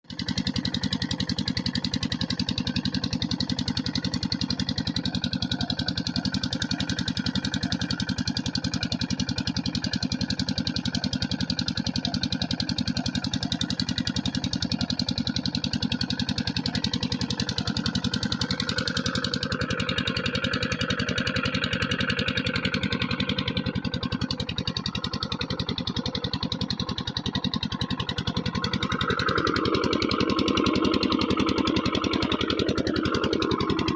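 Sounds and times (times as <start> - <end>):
water pump engine running: 0.1 - 33.9.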